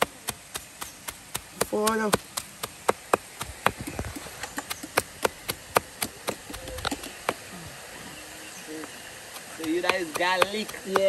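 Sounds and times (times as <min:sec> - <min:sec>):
stone pounding garlic on rock: 0:00.0 - 0:07.5, 0:09.3 - 0:11.0.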